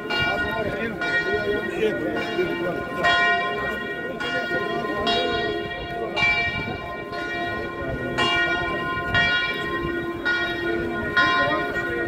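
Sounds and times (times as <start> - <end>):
church bells tolling: 0.0 - 12.0
crowd murmuring: 0.0 - 12.0.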